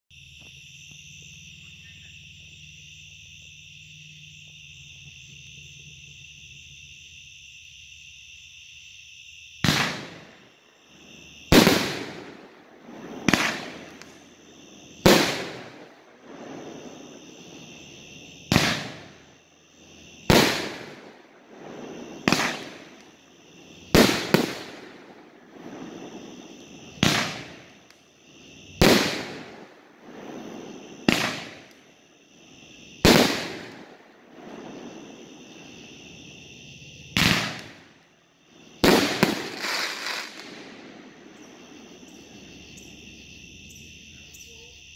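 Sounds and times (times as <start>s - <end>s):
night insects chirring: 0.1s - 44.9s.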